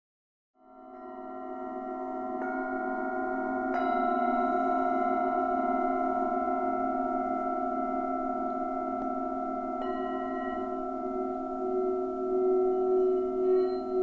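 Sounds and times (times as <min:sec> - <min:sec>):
singing bowls ringing: 0:00.6 - 0:14.0
singing bowl struck: 0:00.8 - 0:14.0.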